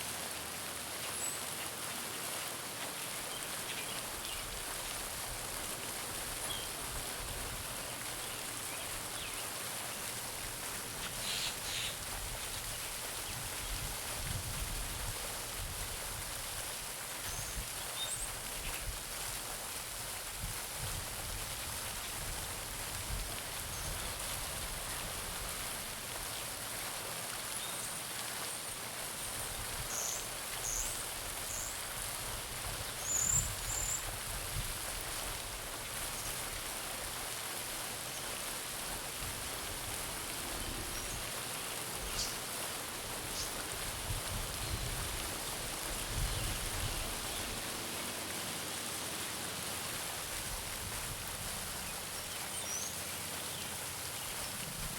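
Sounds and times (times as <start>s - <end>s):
fountain splashing into water: 0.0s - 54.9s.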